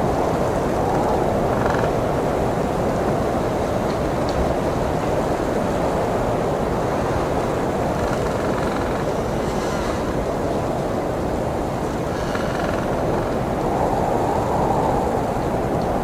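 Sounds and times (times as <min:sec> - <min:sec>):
blizzard wind blowing: 0:00.0 - 0:08.2, 0:08.8 - 0:16.0.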